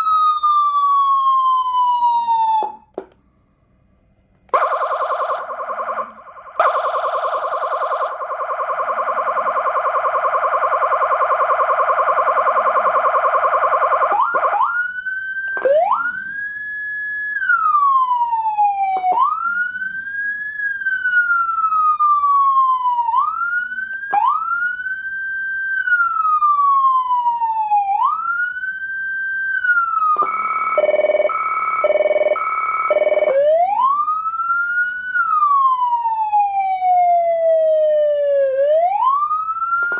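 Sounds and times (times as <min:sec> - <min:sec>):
electronic siren: 0:04.5 - 0:39.9.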